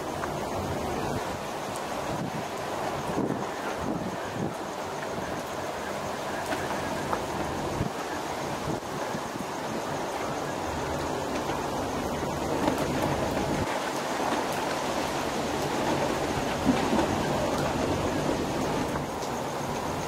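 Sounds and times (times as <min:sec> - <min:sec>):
heavy rain: 0:00.0 - 0:20.0
hurricane wind: 0:00.0 - 0:20.0
wind gusts buffeting microphone: 0:00.0 - 0:20.0.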